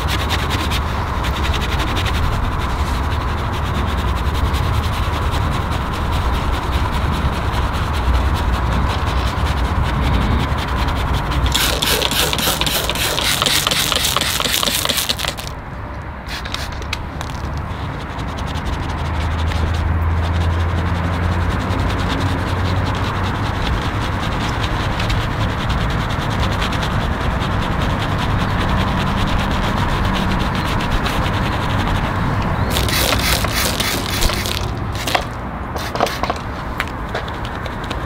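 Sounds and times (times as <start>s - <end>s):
hands rubbing and scraping car: 0.0s - 15.6s, 16.2s - 38.0s
quick repeated strokes: 0.0s - 15.6s, 16.2s - 36.8s.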